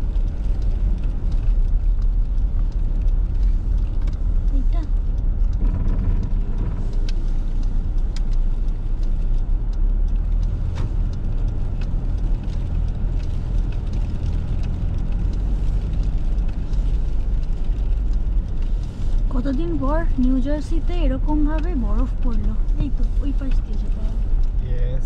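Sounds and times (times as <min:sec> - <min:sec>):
car engine and tyres rumbling: 0:00.0 - 0:25.0
faint clicks: 0:00.0 - 0:25.0.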